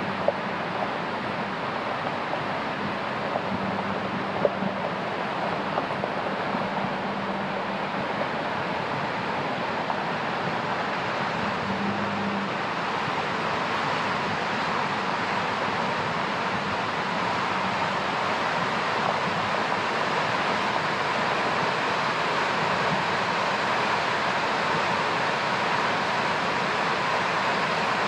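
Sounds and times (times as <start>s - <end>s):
creek rushing over rocks: 0.0s - 28.0s.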